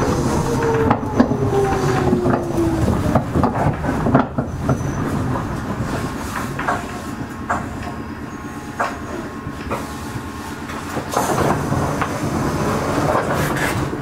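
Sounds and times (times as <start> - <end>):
electric train whine: 0.0 - 14.0
wheels clicking over rail joints: 0.0 - 14.0.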